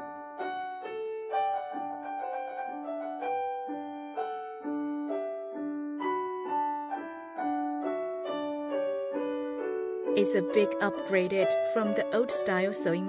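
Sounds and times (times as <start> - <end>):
keyboard playing simple melody: 0.0 - 13.0.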